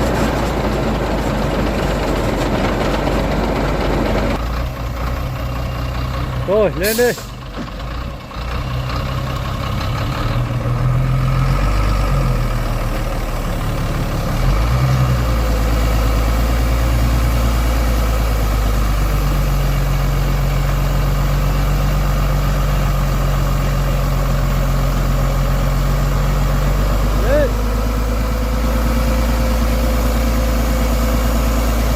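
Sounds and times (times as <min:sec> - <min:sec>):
diesel truck engine under load: 0:00.0 - 0:31.9.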